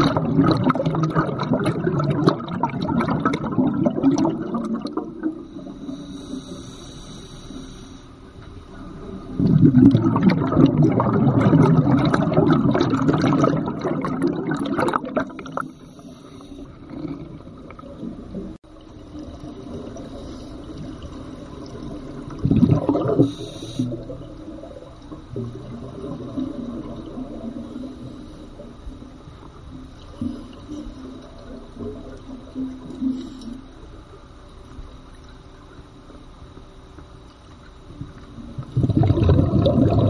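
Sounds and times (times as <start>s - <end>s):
underwater bubbling: 0.0s - 40.0s
underwater water noise: 0.0s - 40.0s.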